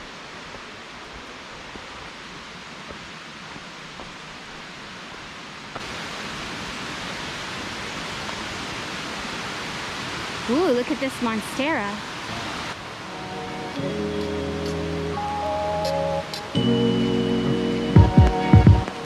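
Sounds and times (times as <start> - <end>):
distant flowing water: 0.0 - 19.0.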